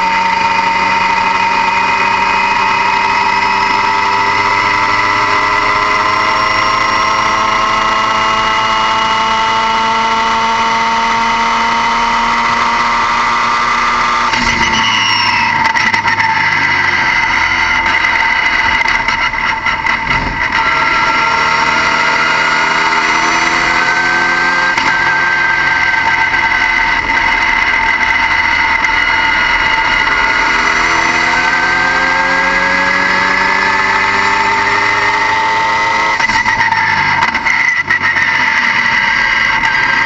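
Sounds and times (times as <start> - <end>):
car engine whining: 0.0 - 40.0.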